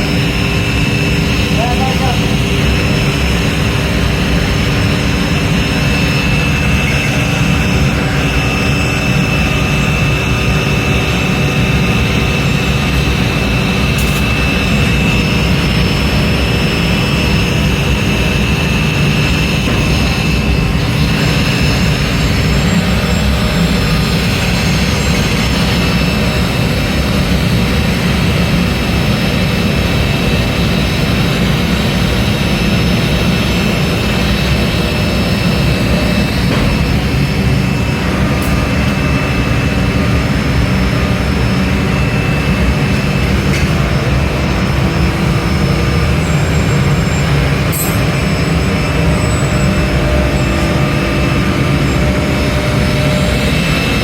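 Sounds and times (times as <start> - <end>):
industrial machinery rumbling: 0.0 - 54.0.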